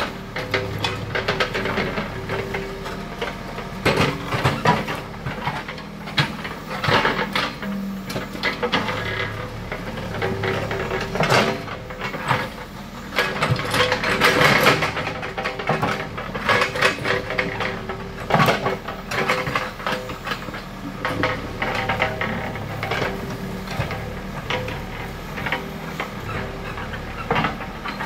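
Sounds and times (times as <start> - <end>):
diesel engine under load: 0.0 - 28.0
bucket clanking and scraping dirt: 0.4 - 28.0.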